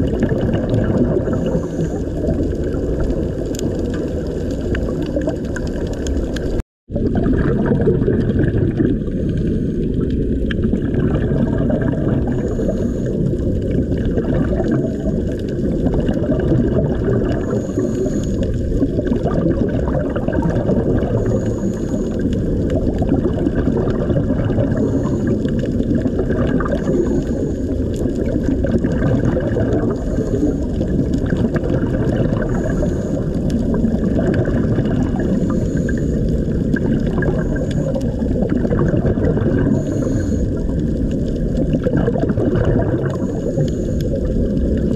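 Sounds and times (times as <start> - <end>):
underwater bubbles gurgling: 0.0 - 44.9.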